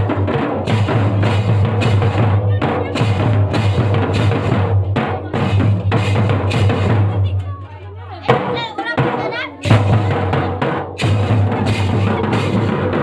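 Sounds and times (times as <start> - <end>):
bass drum booming: 0.0 - 7.3, 8.3 - 13.0
drums beaten with sticks: 0.0 - 13.0.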